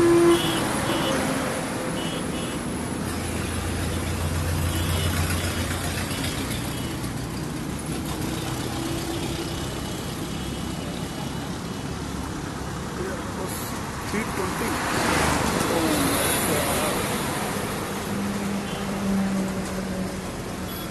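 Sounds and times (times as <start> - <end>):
large vehicle engine hum: 0.0 - 20.9
road traffic: 0.0 - 20.9.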